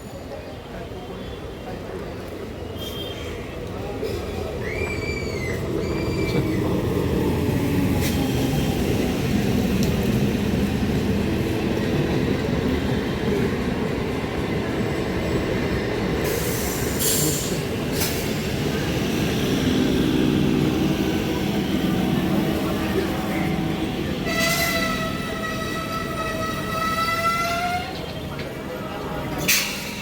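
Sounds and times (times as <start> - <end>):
train rumbling past: 3.4 - 30.0.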